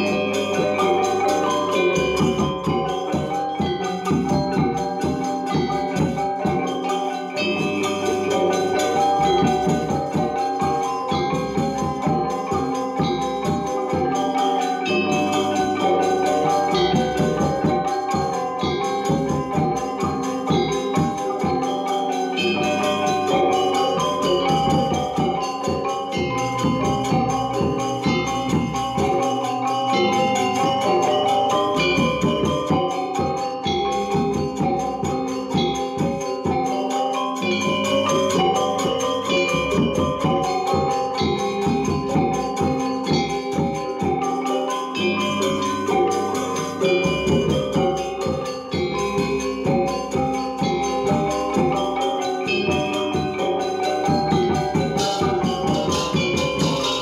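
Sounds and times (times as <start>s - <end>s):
metallophones in interlocking patterns: 0.0s - 57.0s.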